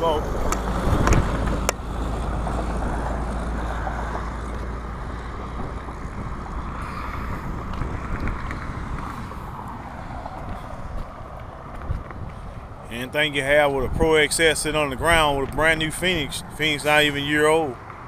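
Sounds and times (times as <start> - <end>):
wind on microphone: 0.0 - 17.1.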